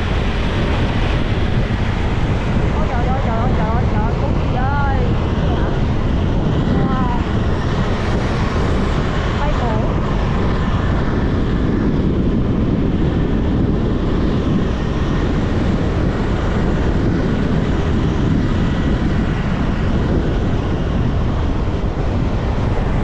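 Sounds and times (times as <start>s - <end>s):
motorcycle engine and wind noise: 0.0s - 23.0s.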